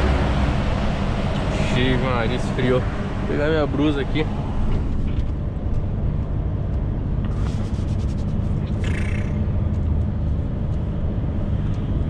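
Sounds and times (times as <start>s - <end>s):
road noise: 0.0s - 12.0s
truck engine low rumble: 0.0s - 12.0s.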